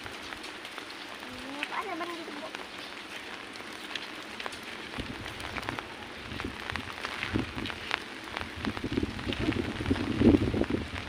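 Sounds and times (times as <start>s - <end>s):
heavy rain on fabric umbrella: 0.0s - 11.0s.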